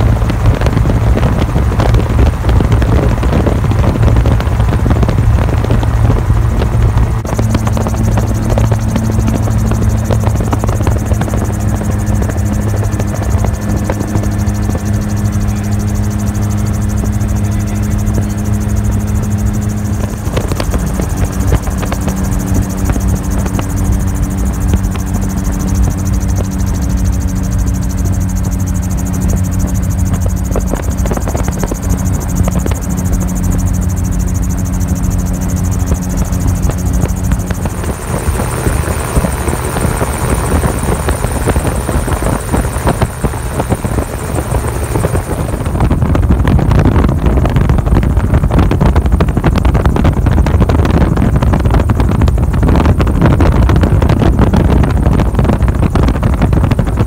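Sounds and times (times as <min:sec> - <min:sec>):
gyrocopter engine droning: 0:00.0 - 0:57.0.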